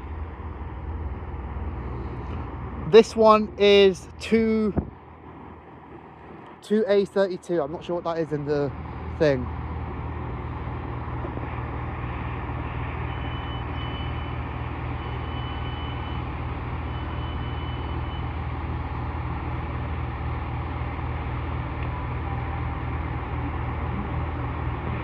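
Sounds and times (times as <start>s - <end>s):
diesel train engine droning: 0.0s - 25.0s.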